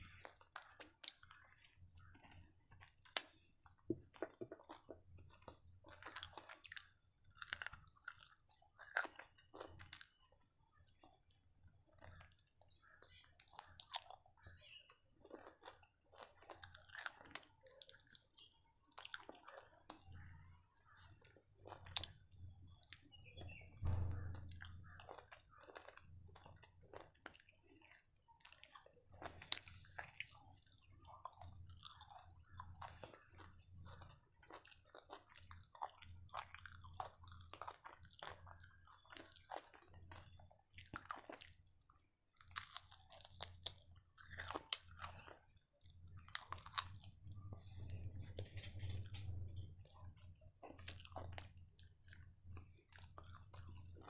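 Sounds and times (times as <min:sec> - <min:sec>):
person chewing meat: 0:00.0 - 0:10.2, 0:15.2 - 0:23.0, 0:24.4 - 0:41.8, 0:42.4 - 0:54.0.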